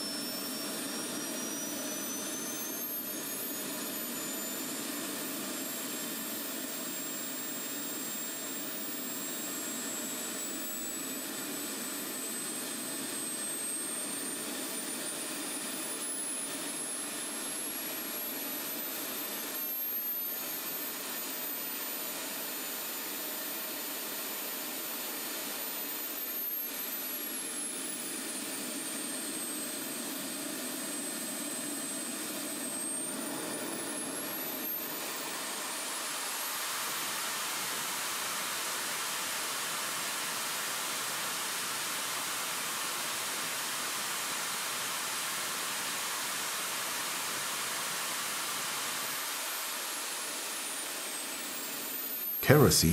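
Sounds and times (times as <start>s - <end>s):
model jet turbine rushing and whining: 0.0s - 52.8s.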